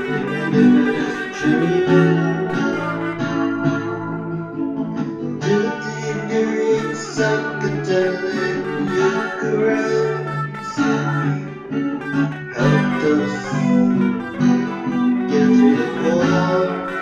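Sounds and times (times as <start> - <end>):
guitar-led instrumental music: 0.0 - 17.0.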